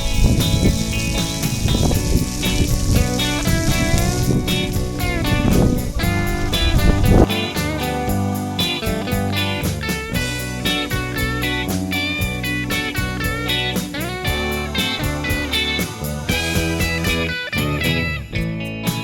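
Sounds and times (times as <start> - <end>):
guitar tune over a beat: 0.0 - 19.0.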